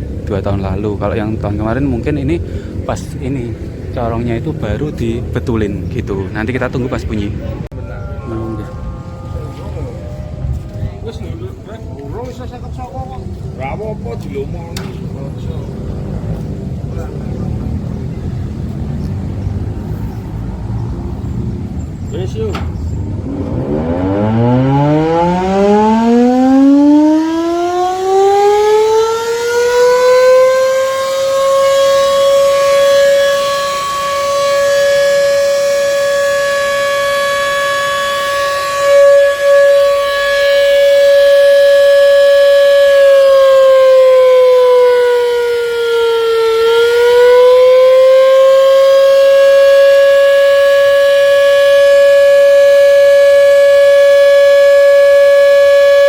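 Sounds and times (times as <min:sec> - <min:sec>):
air-raid siren wailing: 0:06.6 - 0:56.0.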